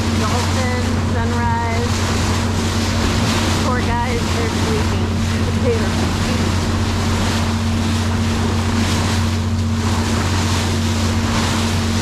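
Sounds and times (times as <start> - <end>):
diesel engine droning: 0.0 - 12.0
rushing water: 0.0 - 12.0
wind: 0.0 - 12.0.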